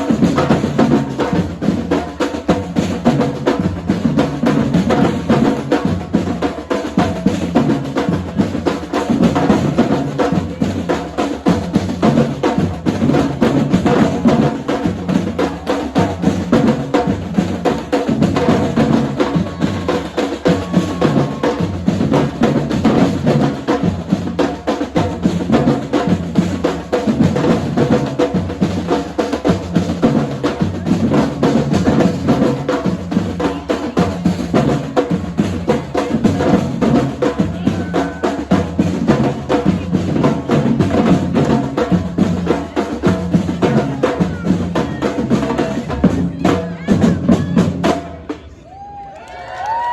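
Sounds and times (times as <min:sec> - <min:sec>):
percussion drum line groove: 0:00.0 - 0:49.9.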